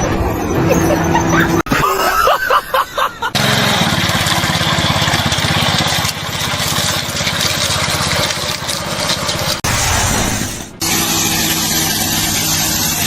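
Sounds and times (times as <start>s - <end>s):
engine starting and running: 0.0s - 13.0s.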